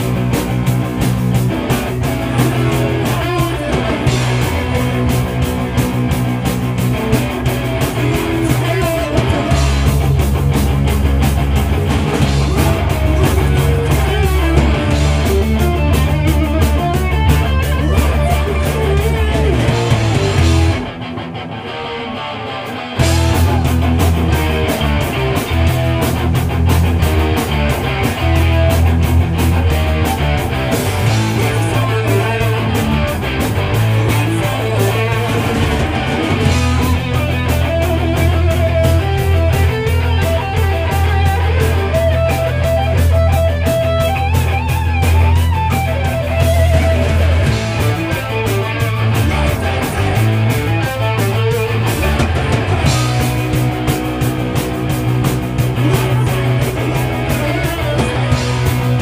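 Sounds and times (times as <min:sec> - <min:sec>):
steady drumming: 0:00.0 - 0:21.2, 0:23.0 - 0:59.0
bass guitar: 0:00.0 - 0:59.0
electric guitars: 0:00.0 - 0:59.0.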